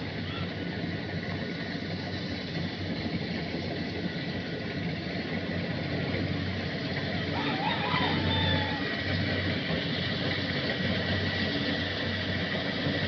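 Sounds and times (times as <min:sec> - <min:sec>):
combine harvester engine humming: 0:00.0 - 0:13.0.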